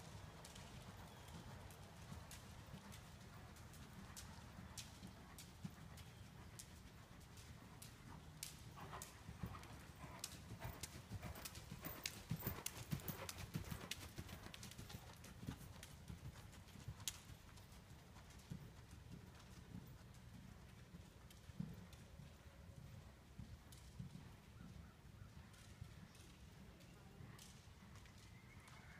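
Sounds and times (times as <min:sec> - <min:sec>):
horse hoofbeats cantering: 0:00.0 - 0:24.7.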